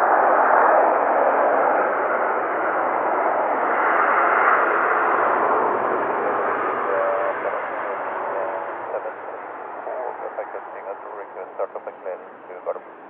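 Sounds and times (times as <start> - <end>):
jet engines in reverse thrust: 0.0 - 13.0.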